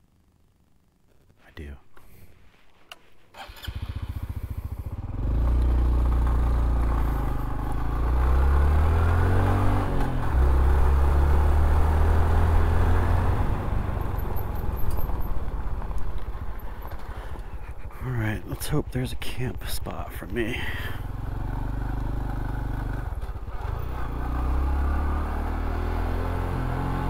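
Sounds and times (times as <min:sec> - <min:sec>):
motorcycle engine running: 0:03.4 - 0:27.0.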